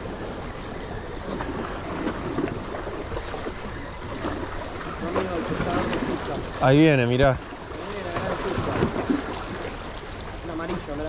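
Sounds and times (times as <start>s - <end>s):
river water lapping against rocks: 0.0s - 11.0s
wind: 0.0s - 11.0s.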